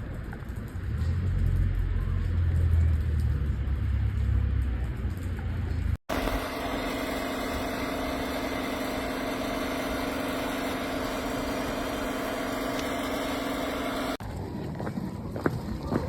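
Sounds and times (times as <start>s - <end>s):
vehicle engine idling: 0.8s - 14.2s.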